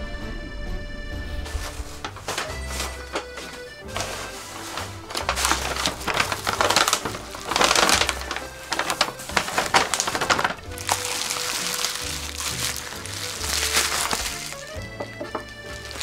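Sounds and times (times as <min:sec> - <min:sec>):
background music: 0:00.0 - 0:16.0
paper and plastic rustling: 0:01.4 - 0:16.0.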